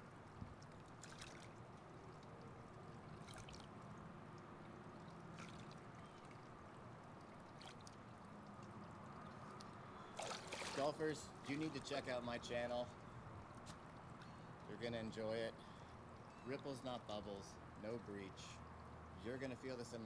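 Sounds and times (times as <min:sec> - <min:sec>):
pool water lapping: 0:00.0 - 0:20.0
soft water splashes: 0:00.0 - 0:20.0.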